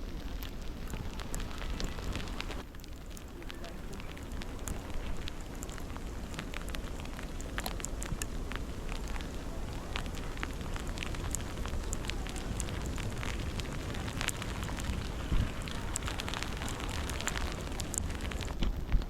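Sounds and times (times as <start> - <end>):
crackling clicks: 0.0 - 19.0
wind rumbling on microphone: 0.0 - 19.0.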